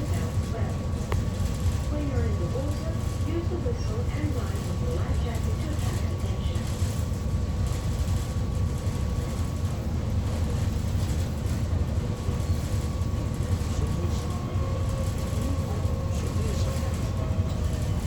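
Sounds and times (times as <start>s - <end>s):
ferry engines rumbling: 0.0s - 18.0s.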